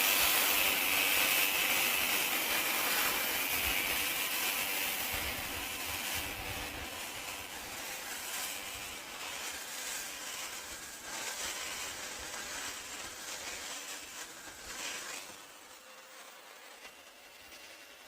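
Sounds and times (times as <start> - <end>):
reciprocating saw cutting wood: 0.0 - 18.0.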